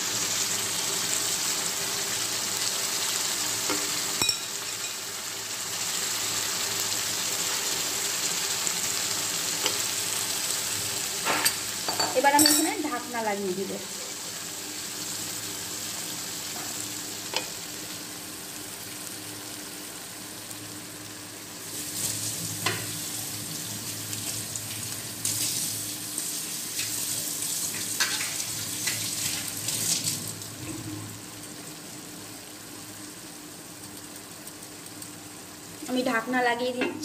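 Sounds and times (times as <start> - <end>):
fish sizzling in a wok: 0.0 - 37.0.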